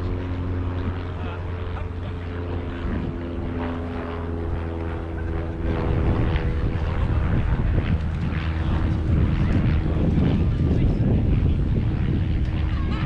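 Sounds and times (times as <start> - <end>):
propeller airplane engine: 0.0 - 13.0.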